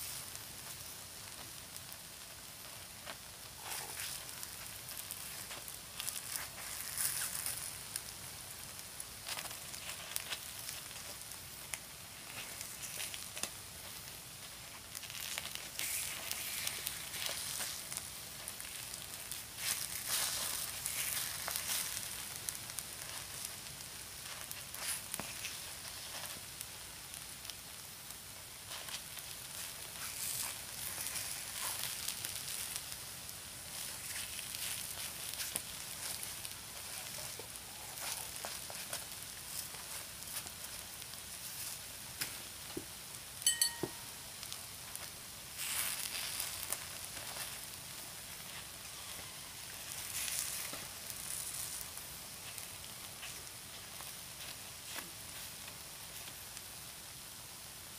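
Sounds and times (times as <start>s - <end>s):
batter sizzling and crackling: 0.0s - 57.9s.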